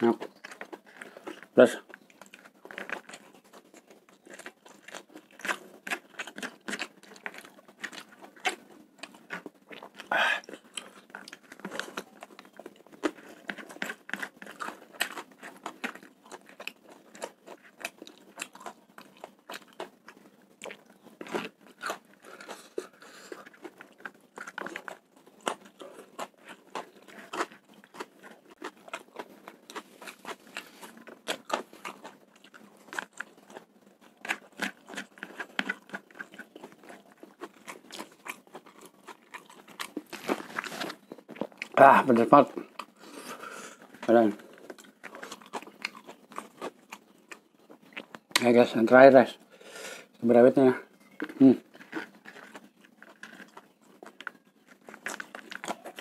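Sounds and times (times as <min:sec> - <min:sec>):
person chewing with wet crunches: 0:00.0 - 0:48.8, 0:49.4 - 0:56.0.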